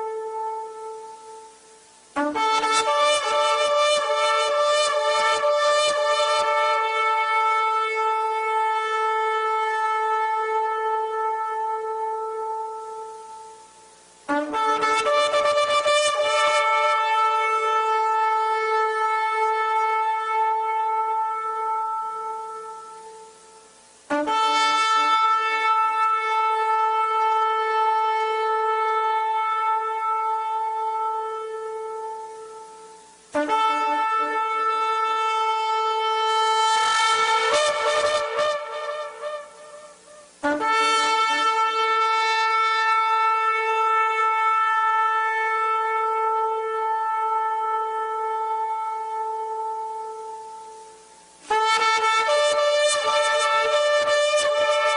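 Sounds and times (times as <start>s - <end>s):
shofar blasts: 0.0s - 54.9s.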